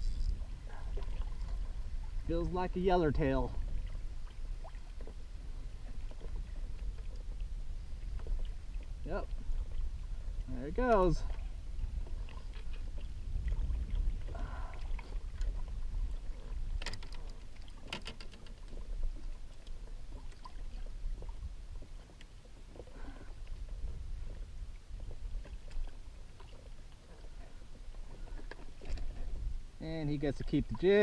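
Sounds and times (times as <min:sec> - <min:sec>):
wind and water rumble: 0:00.0 - 0:31.0.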